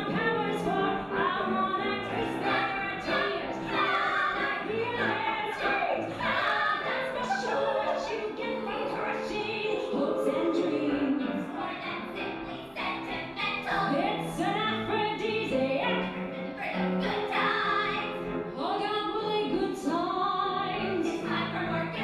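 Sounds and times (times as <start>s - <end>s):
women singing in harmony: 0.0s - 22.0s.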